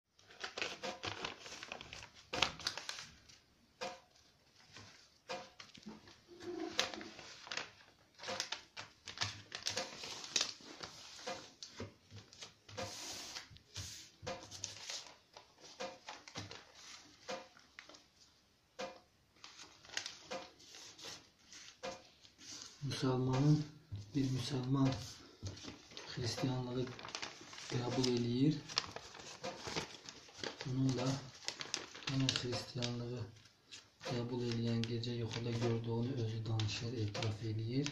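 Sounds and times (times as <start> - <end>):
paper rustling and creasing: 0.1 - 3.5, 4.1 - 18.3, 19.4 - 37.9.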